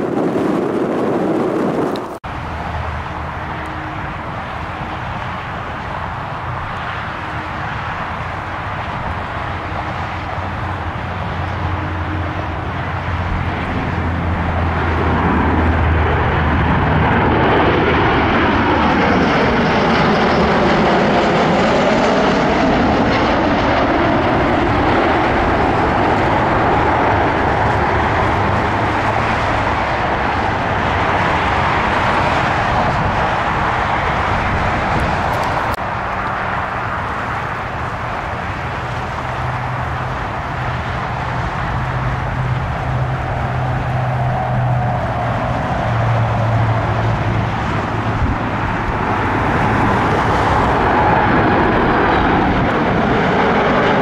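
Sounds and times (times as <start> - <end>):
airplane engines passing by: 0.0 - 54.0.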